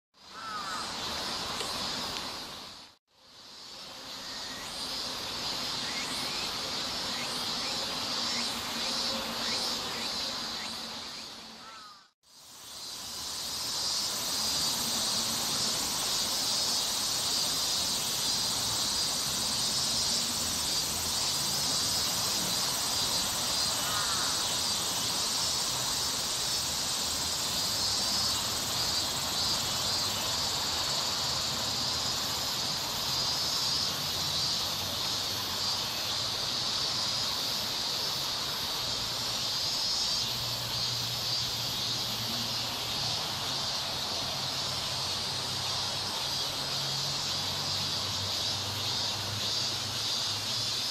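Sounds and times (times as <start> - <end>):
insects shrilling: 0.2 - 50.9.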